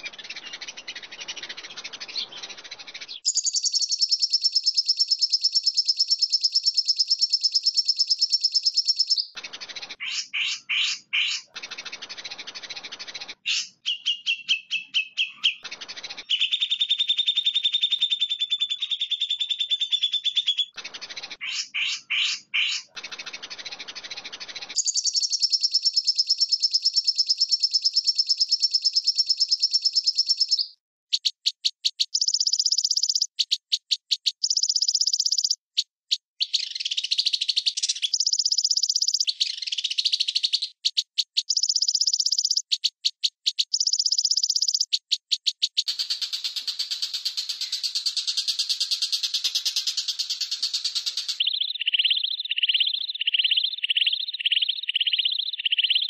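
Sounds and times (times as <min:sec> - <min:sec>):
chirps: 0:00.0 - 0:56.0
high-pitched bird trilling: 0:00.0 - 0:56.0.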